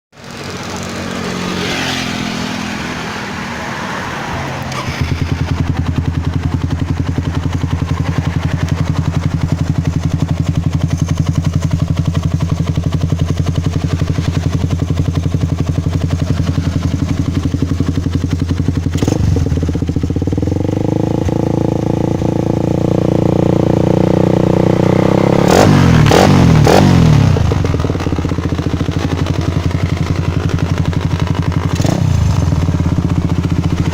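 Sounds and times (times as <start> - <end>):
motorcycle engine idling: 4.7 - 33.9.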